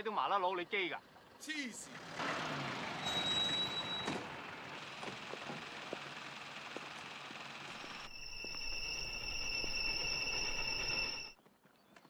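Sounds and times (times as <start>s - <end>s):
minibus pulling away: 1.0s - 11.3s.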